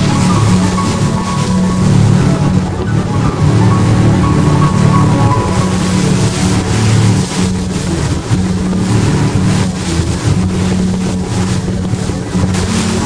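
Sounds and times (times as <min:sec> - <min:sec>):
motorboat engine running: 0:00.0 - 0:13.0
rushing water and wind: 0:00.0 - 0:13.0.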